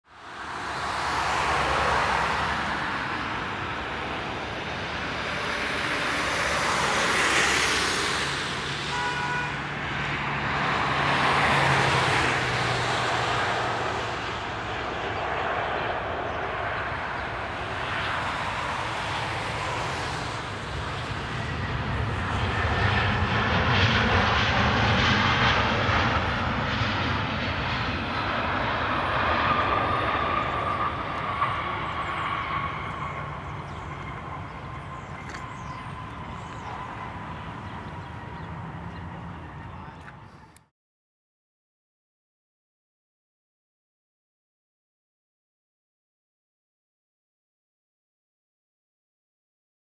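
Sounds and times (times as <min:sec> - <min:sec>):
steady engine whine: 0:00.0 - 0:40.7
jet engines roaring: 0:00.1 - 0:40.6.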